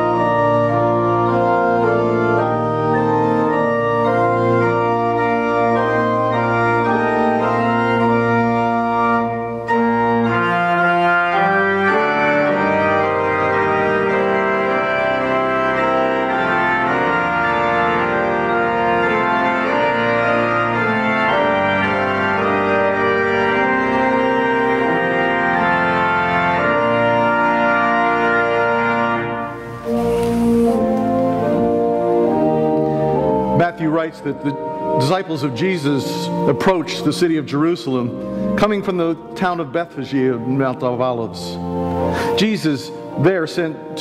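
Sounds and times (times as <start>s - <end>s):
organ playing sustained chords: 0.0s - 44.0s.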